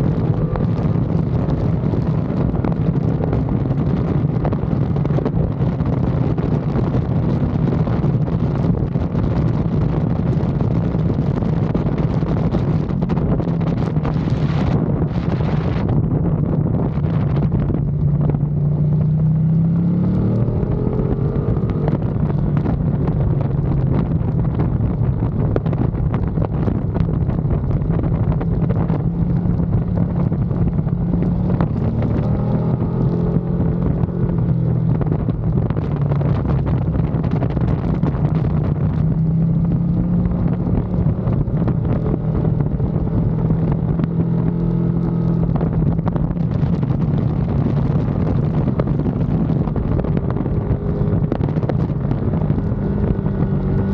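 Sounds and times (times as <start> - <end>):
motorcycle engine revving: 0.0 - 53.9
wind rushing over microphone: 0.0 - 53.9.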